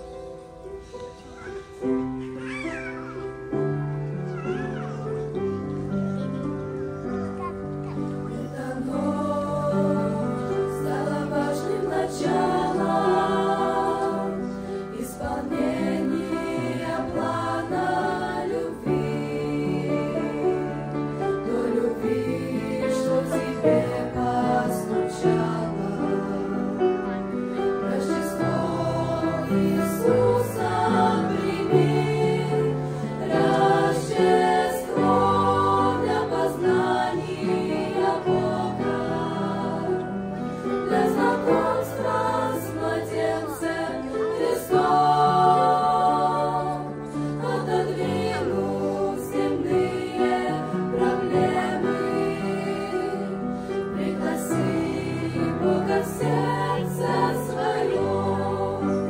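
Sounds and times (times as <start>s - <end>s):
musical accompaniment: 0.0s - 59.0s
choir singing: 5.1s - 59.0s.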